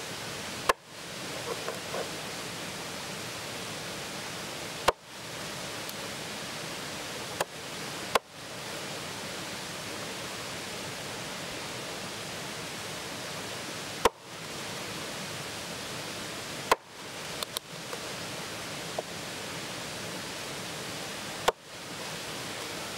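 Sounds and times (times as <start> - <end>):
steady hiss: 0.0 - 22.9.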